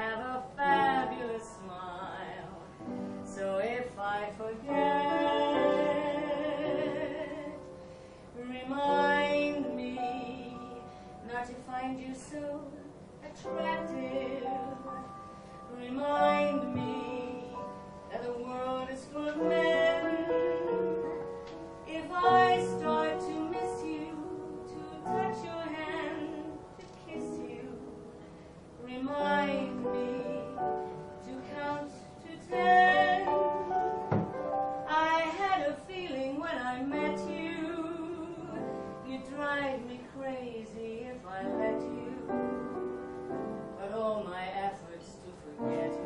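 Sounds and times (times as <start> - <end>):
musical accompaniment: 0.0 - 46.0
woman singing a ballad: 0.0 - 46.0.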